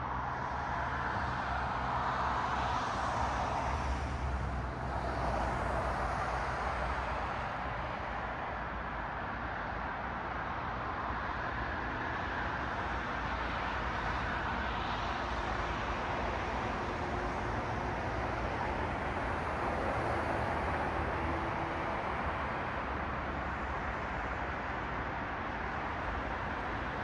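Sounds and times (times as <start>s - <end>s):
cars passing on street: 0.0s - 27.0s.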